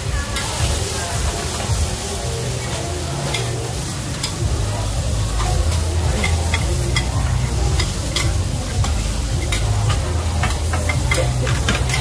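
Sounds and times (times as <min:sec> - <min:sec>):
pancakes sizzling on griddle: 0:00.0 - 0:12.0.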